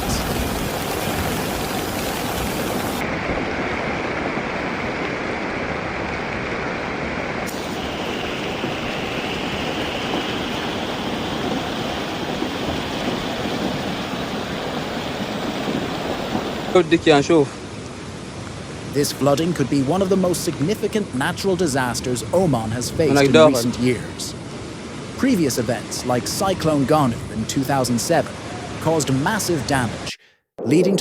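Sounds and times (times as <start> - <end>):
floodwater rushing: 0.0 - 16.9, 17.6 - 30.2
heavy rain: 0.0 - 30.2.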